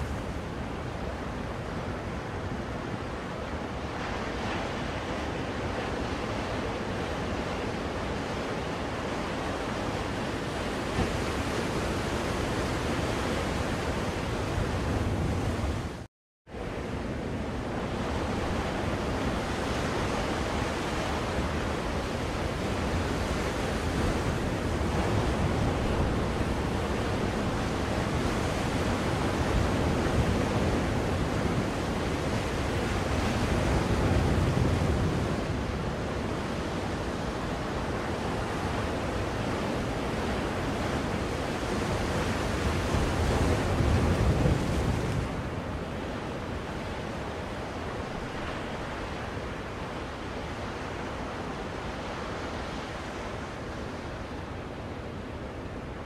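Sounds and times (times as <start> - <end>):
ocean surf waves: 0.0 - 56.0.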